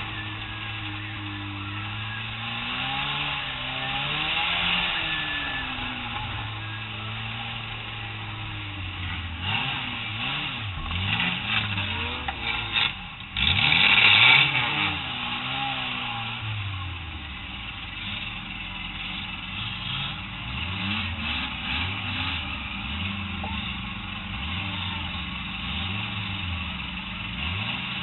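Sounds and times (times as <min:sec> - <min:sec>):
stock car engines revving: 0:00.0 - 0:28.0.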